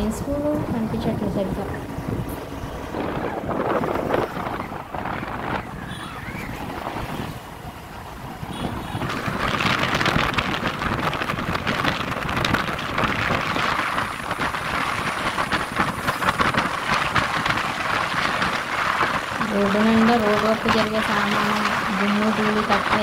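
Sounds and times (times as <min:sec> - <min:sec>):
vehicle road noise: 0:00.0 - 0:23.0
wind rushing over microphone: 0:00.0 - 0:23.0.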